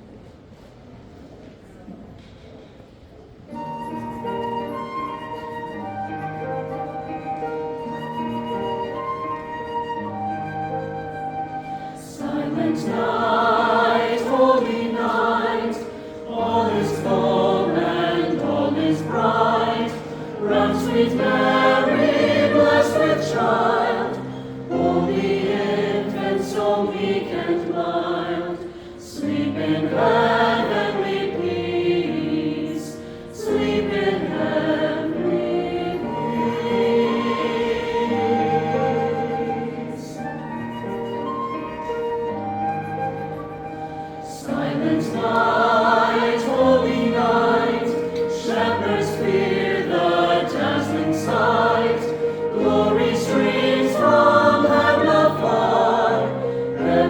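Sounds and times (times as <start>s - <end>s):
choir singing: 4.5s - 57.0s.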